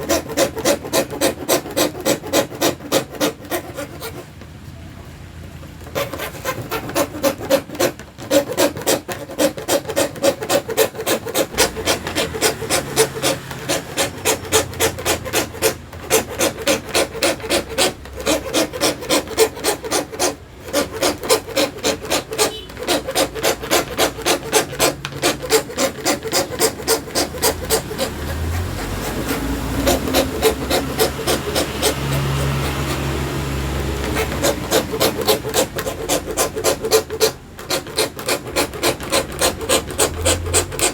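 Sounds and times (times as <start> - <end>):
hand saw cutting plastic sheet: 0.0 - 4.4, 5.8 - 40.9.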